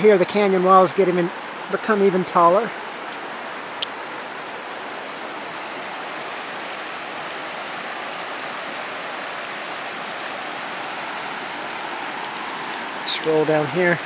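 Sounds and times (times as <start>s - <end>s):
river flowing over rocks: 0.0s - 14.0s.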